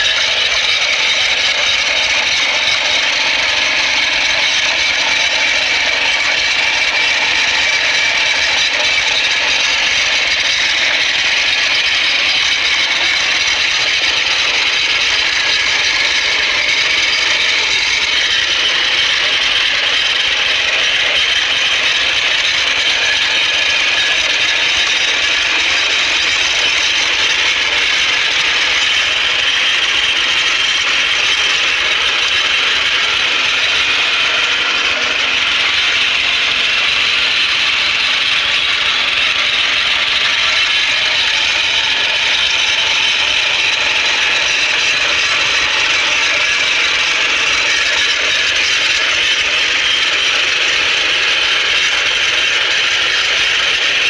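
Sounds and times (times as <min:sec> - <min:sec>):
small engine running under load: 0:00.0 - 0:54.0
tines churning stony soil: 0:00.0 - 0:54.0.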